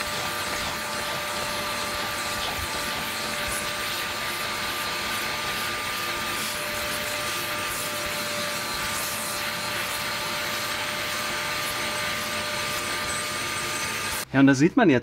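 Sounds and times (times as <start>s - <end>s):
vacuum motor whine: 0.0s - 14.2s.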